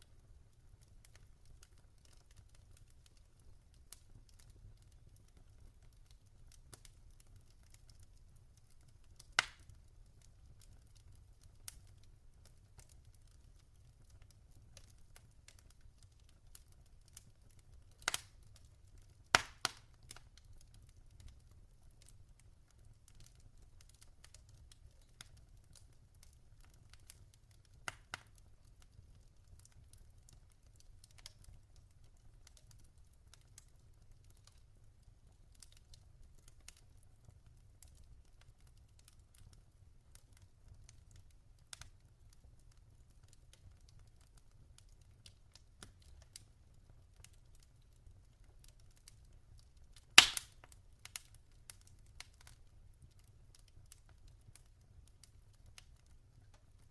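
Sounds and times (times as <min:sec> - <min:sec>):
log fire crackling: 0:00.0 - 0:56.9.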